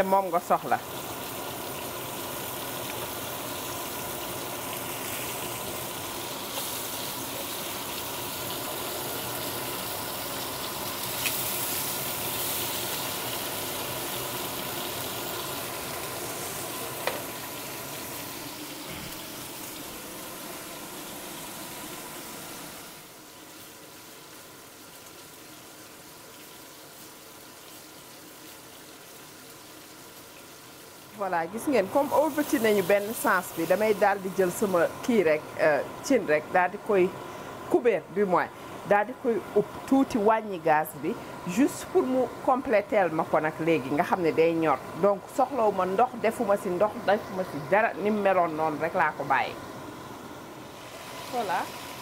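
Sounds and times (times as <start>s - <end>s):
steaks sizzling in hot oil: 0.0s - 38.1s, 38.7s - 52.0s.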